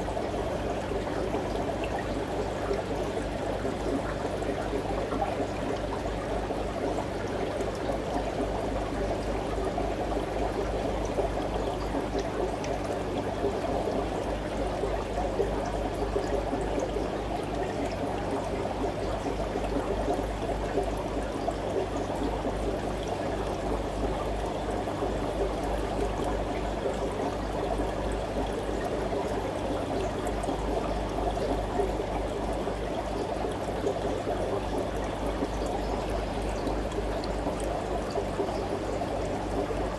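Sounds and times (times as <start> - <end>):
low steady hum: 0.0 - 39.9
water trickling and pouring: 0.0 - 39.9.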